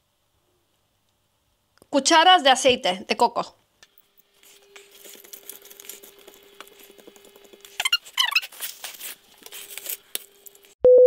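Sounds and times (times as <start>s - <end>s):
faint hob hum: 0.0s - 10.8s.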